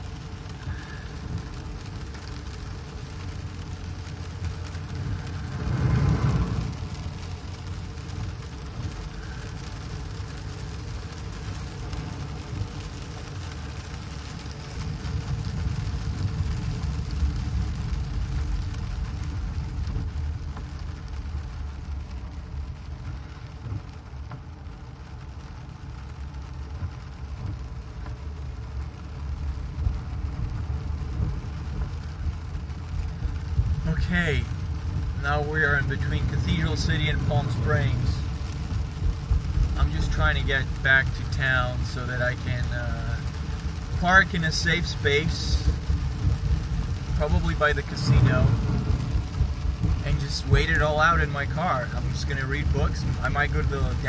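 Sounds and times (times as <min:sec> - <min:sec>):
car engine and tyres rumbling: 0:00.0 - 0:54.0
rain hitting windshield: 0:00.0 - 0:54.0.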